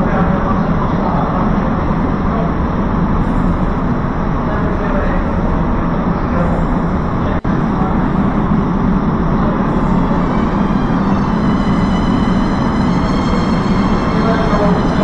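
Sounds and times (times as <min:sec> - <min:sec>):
hydroelectric turbine running: 0:00.0 - 0:15.0.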